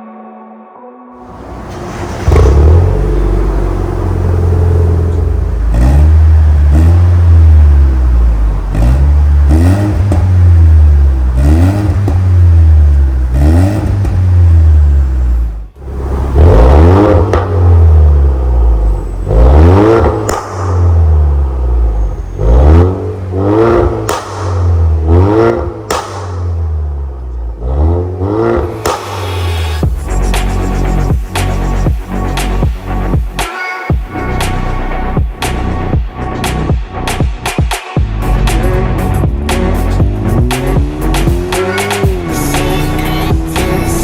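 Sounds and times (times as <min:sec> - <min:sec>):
car engine throttle blips: 0:01.2 - 0:33.4, 0:38.3 - 0:44.0.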